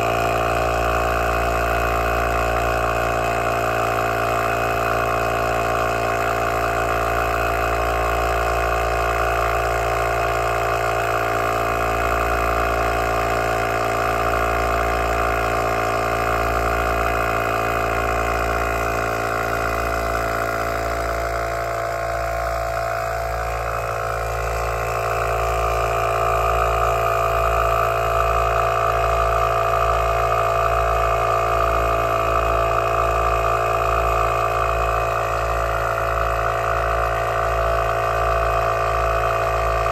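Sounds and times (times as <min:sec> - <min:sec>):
tyre compressor running: 0:00.0 - 0:39.9.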